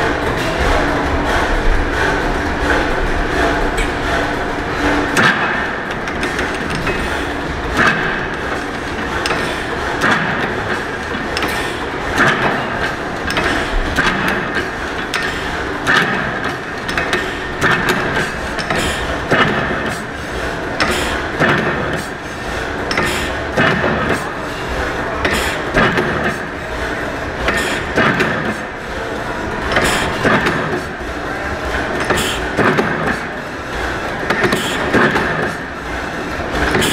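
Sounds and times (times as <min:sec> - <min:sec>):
gas engine clattering: 0:00.1 - 0:36.9.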